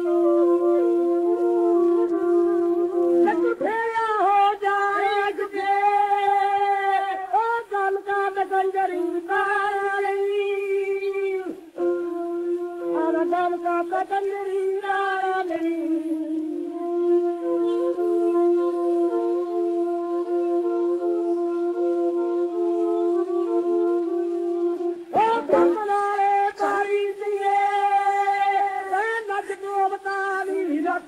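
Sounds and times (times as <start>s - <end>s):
man singing ornamented melody: 0.0s - 31.0s.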